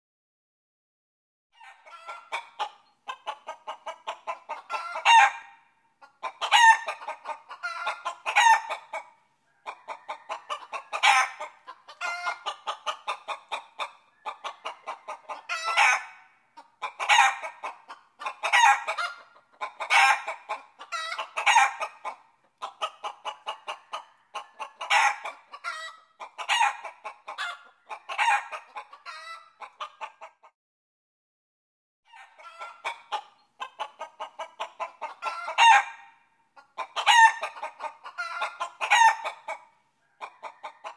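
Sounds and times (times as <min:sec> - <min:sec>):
chicken clucking and squawking: 0:01.6 - 0:30.5, 0:32.1 - 0:40.9.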